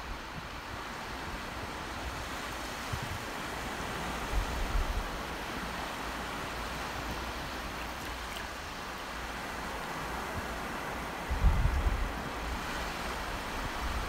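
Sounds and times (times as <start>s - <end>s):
surf washing over sand: 0.0s - 14.0s.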